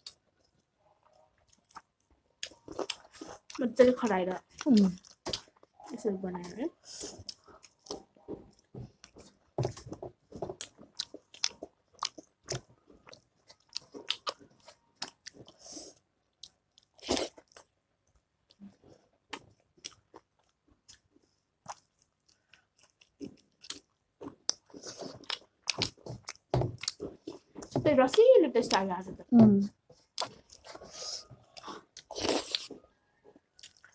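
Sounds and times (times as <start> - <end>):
wet chewing: 0.0 - 15.7, 16.4 - 28.9, 30.1 - 33.9.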